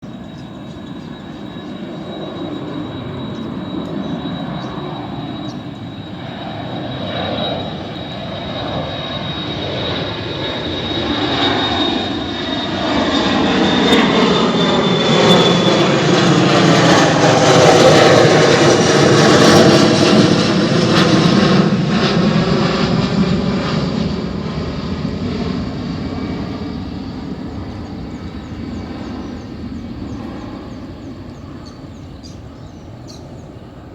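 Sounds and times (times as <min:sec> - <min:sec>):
airliner engine noise: 0:00.0 - 0:33.9
high jet whine: 0:00.0 - 0:33.9.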